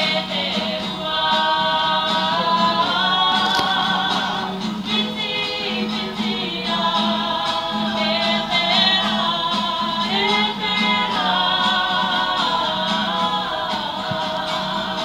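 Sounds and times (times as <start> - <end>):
group singing in harmony: 0.0 - 15.0
guitar accompaniment: 0.0 - 15.0.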